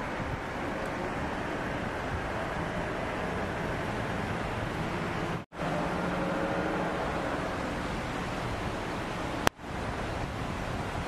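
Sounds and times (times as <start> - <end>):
idling vehicle engines: 0.0 - 11.0
street noise: 0.0 - 11.0.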